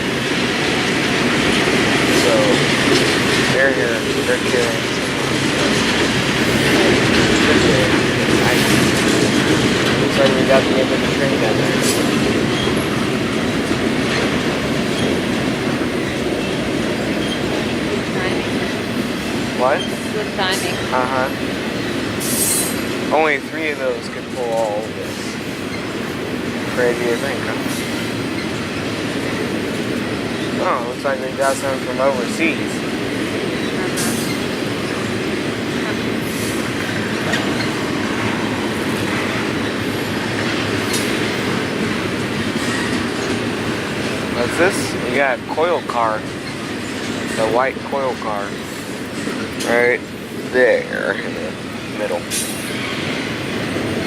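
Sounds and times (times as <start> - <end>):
train wheels rolling on rails: 0.0 - 54.0.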